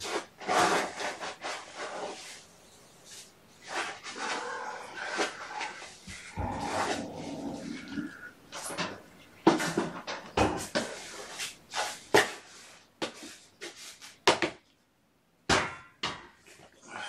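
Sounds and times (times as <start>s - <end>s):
rustling: 0.0s - 14.2s.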